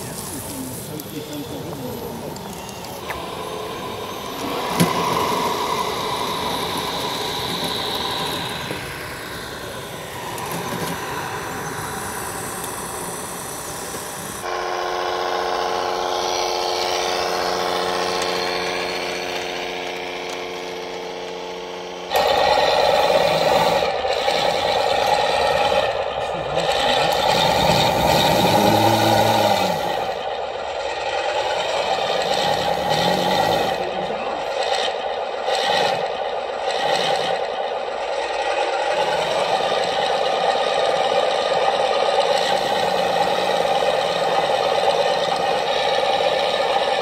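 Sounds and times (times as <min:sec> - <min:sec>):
model tractor drive whine: 0:00.0 - 0:47.0
rough model tractor engine: 0:00.0 - 0:47.0
steady pitched hum: 0:00.0 - 0:47.0.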